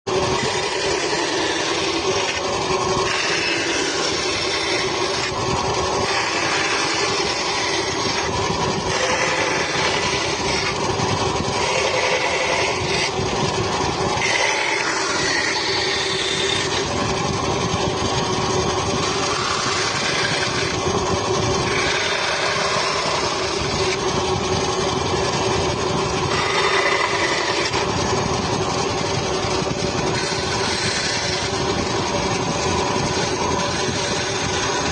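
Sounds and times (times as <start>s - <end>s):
power tool rasping wood: 0.0s - 34.9s.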